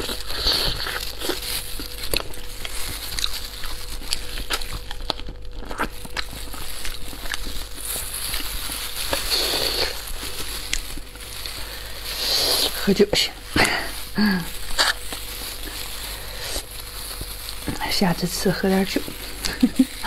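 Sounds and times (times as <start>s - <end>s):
plastic gloves crackling: 0.0s - 20.0s.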